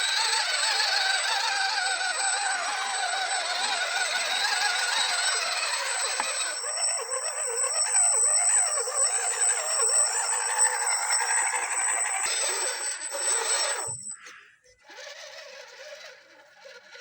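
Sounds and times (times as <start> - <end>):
electric motor and gearbox whining: 0.0 - 14.3
thin high whine: 0.0 - 14.4.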